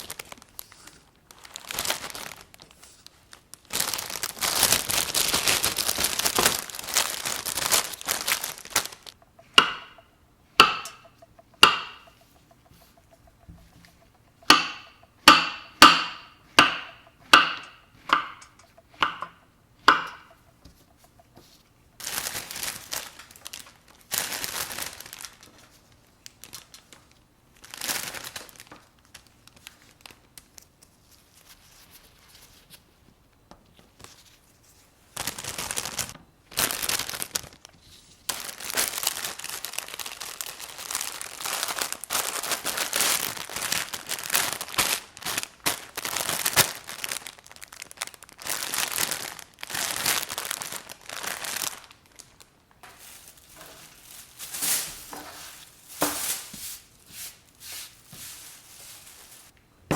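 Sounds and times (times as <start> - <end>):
plastic packaging crinkling: 0.0 - 10.2, 16.0 - 32.9, 33.8 - 59.6.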